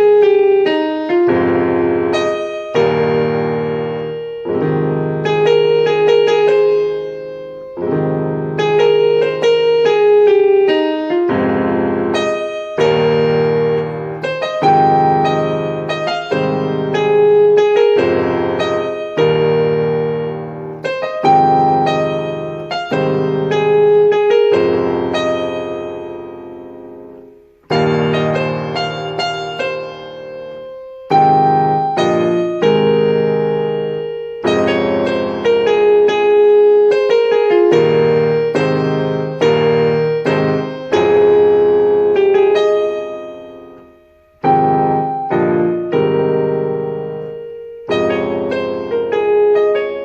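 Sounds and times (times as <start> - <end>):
slow piano ballad chords: 0.0 - 50.0.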